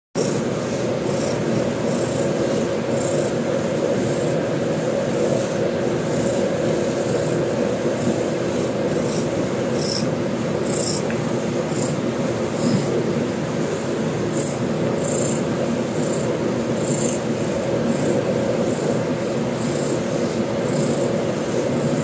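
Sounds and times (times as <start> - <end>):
computer hum: 0.2 - 13.0, 13.7 - 21.2.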